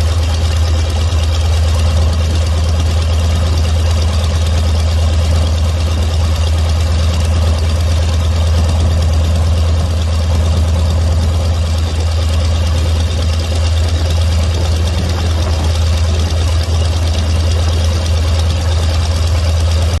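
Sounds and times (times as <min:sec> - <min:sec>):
radial piston engine idling: 0:00.0 - 0:20.0.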